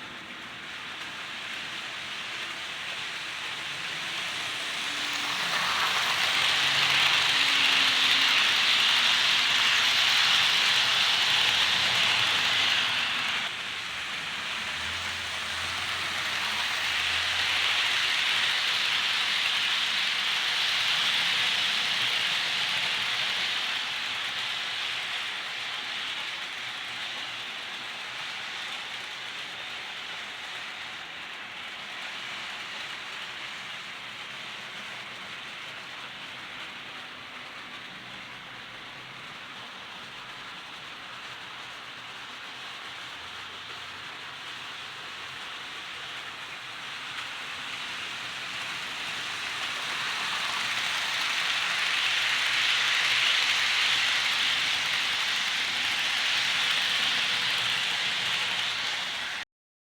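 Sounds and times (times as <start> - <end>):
model train rolling on track: 0.0 - 59.4.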